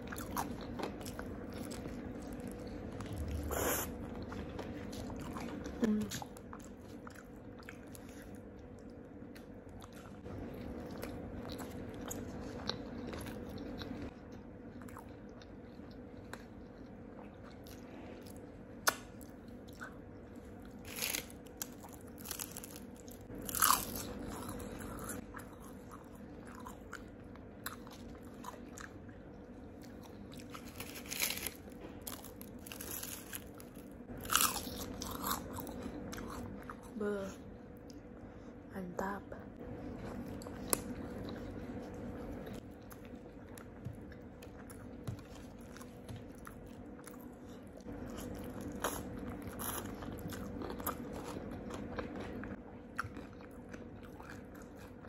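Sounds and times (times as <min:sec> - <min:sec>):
steady chewing: 0:00.0 - 0:38.4, 0:39.6 - 0:55.0.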